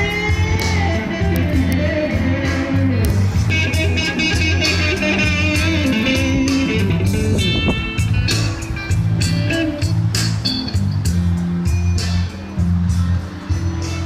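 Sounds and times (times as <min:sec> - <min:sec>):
blues rock guitar music: 0:00.0 - 0:12.9.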